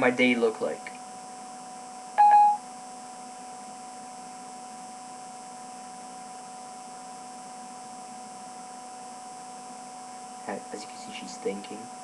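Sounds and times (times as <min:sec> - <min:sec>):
electrical hum: 0:00.0 - 0:12.0
faint high whine: 0:00.0 - 0:12.0.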